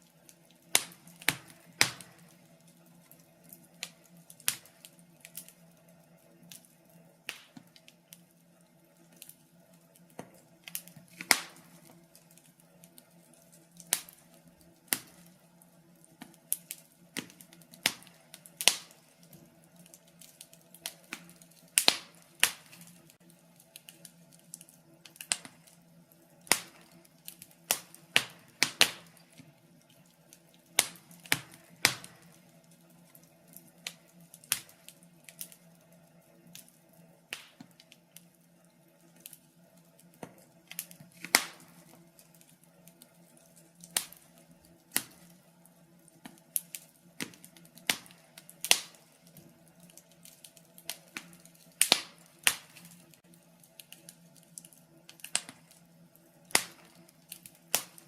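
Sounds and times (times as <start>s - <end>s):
faint steady hum: 0.0s - 58.0s
wood fire crackling: 0.0s - 58.0s.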